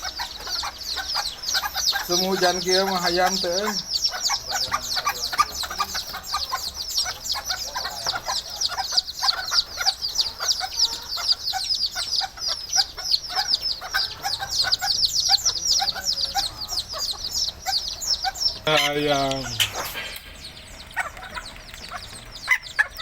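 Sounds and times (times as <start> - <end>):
chickens chirping: 0.0 - 23.0
chickens clucking: 0.0 - 23.0.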